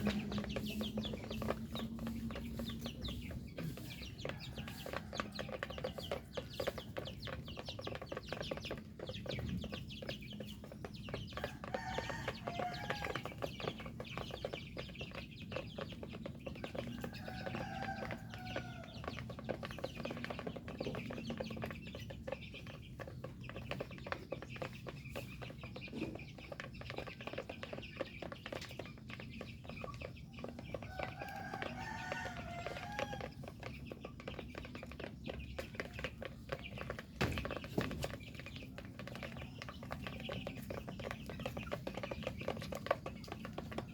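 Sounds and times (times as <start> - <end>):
chickens clucking: 0.0 - 43.9
dense patter of small clicks: 4.1 - 43.9.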